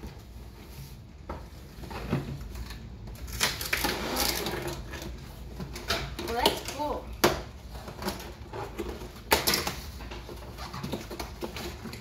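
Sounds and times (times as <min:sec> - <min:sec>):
cardboard and tape rustling: 0:00.0 - 0:12.0.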